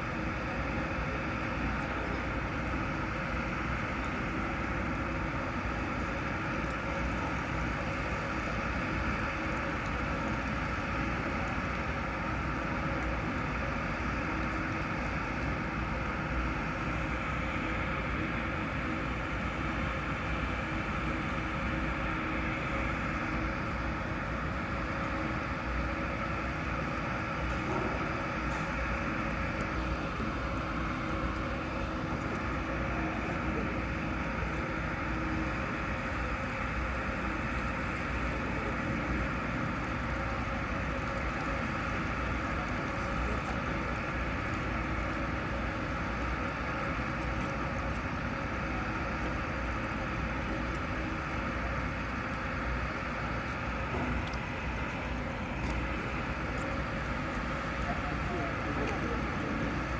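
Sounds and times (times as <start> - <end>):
faint constant tones: 0.0 - 59.9
ship machinery hum: 0.0 - 59.9.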